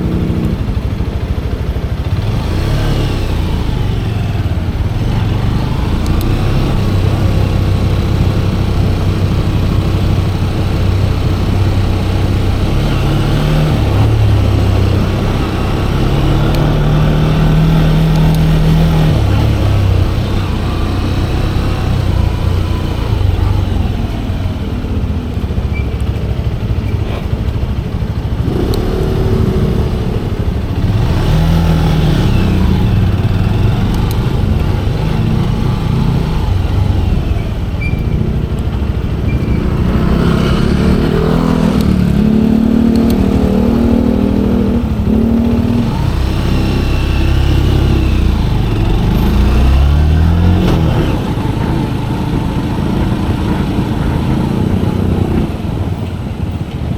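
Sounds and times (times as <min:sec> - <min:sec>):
motorcycle engine accelerating: 0:00.0 - 0:56.9
wind and road rumble: 0:00.0 - 0:56.9.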